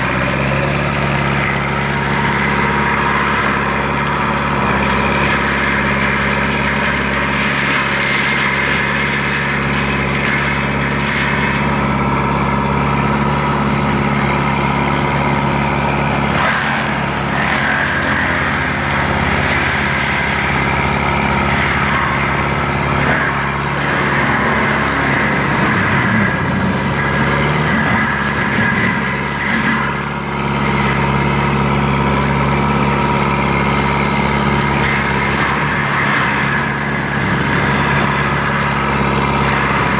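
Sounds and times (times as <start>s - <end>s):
diesel engine of forestry mulcher: 0.0s - 39.9s.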